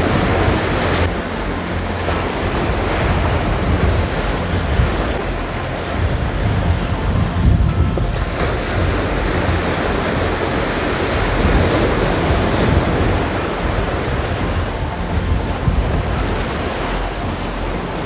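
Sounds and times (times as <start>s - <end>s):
surf breaking on rocks: 0.0s - 18.0s
wind buffeting microphone: 0.0s - 18.0s.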